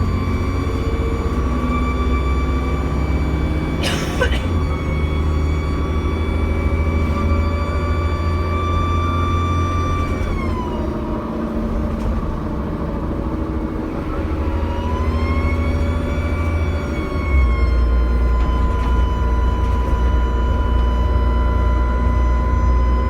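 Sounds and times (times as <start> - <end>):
diesel engine rumble: 0.0 - 23.0
turbocharger whine: 0.0 - 23.0.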